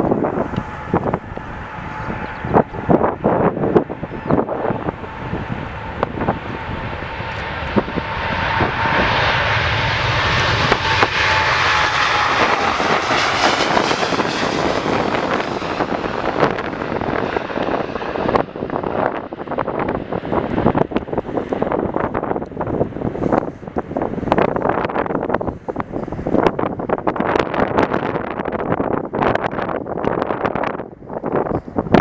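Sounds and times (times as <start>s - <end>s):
jet engine roar: 0.0s - 32.0s
jet engine whine: 0.0s - 32.0s
wind buffeting microphone: 0.0s - 32.0s.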